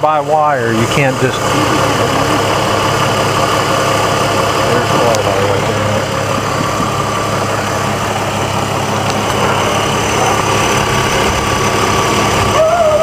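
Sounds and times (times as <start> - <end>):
car engine idling: 0.0 - 13.0
engine fan spinning: 0.0 - 13.0.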